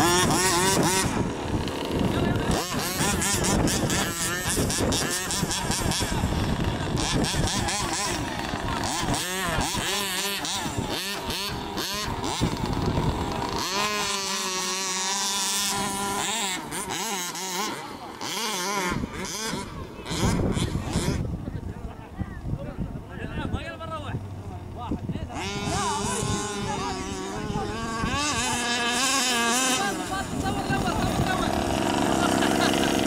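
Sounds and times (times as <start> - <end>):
small two-stroke engines revving: 0.0 - 22.1, 23.0 - 33.0.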